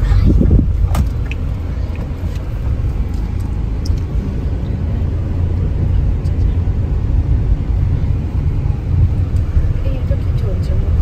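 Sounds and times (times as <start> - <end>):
car rumbling inside cabin: 0.0 - 11.0.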